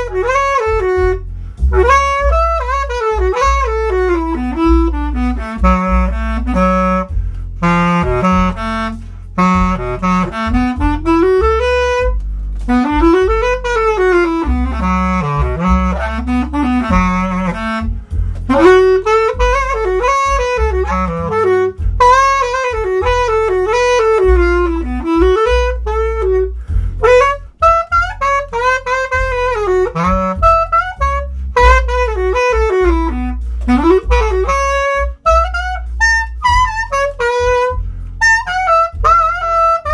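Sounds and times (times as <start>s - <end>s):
bass clarinet playing jazz-blues: 0.0s - 39.9s.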